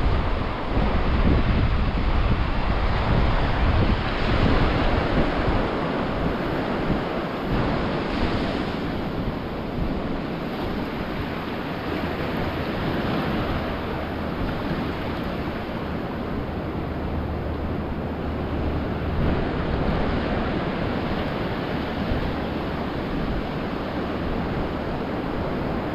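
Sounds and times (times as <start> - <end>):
ocean waves breaking on beach: 0.0 - 25.9.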